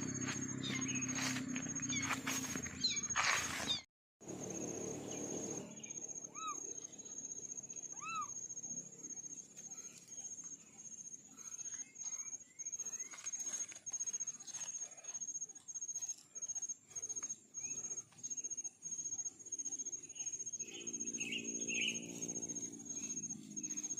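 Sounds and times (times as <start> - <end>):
cricket chirping: 0.0 - 23.9.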